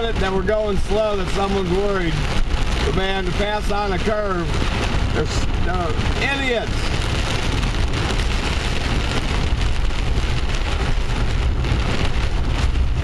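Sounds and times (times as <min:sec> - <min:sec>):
car rumbling on wet road: 0:00.0 - 0:13.0
heavy rain on car roof: 0:00.0 - 0:13.0.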